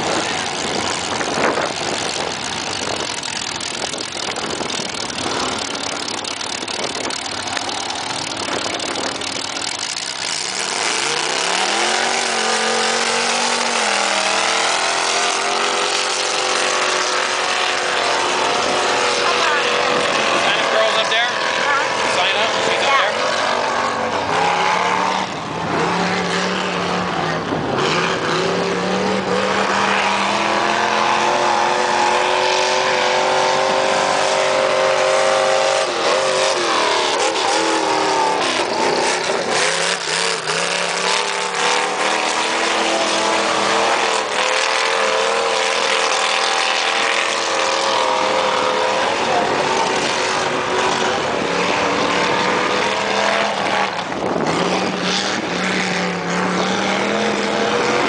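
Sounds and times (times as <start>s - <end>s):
truck engine revving hard: 0.0s - 58.0s.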